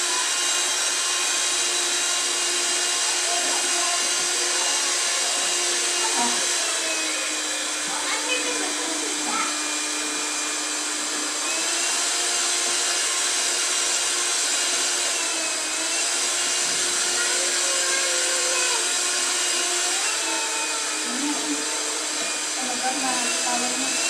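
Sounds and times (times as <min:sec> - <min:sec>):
electric hand mixer whirring: 0:00.0 - 0:24.0.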